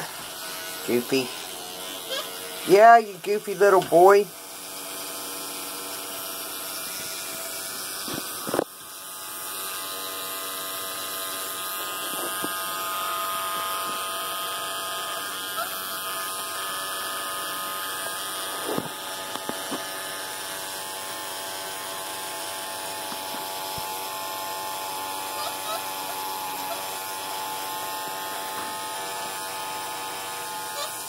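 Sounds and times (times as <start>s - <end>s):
electric toothbrush buzzing: 0.0s - 31.0s.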